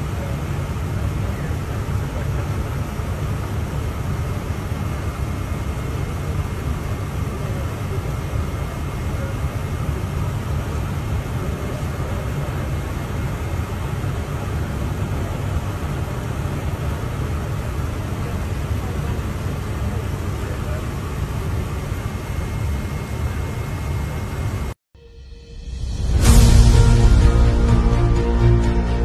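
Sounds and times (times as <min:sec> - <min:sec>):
steady low rumble with hiss: 0:00.0 - 0:24.8, 0:25.8 - 0:29.0.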